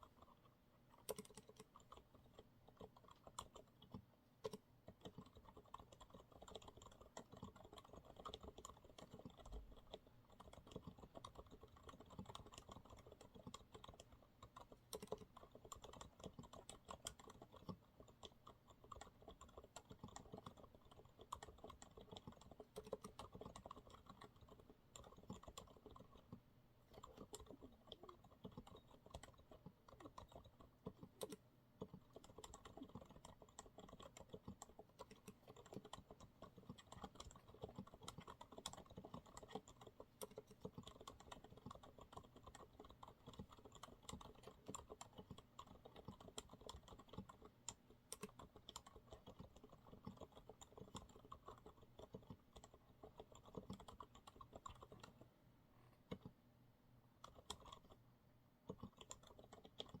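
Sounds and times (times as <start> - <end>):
quiet mechanical keyboard typing: 0.0 - 60.0.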